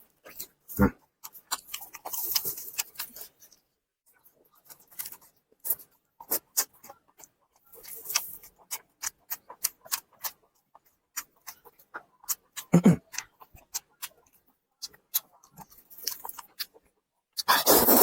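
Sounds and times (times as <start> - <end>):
chewing noodles with mouth clicks: 0.1 - 18.0.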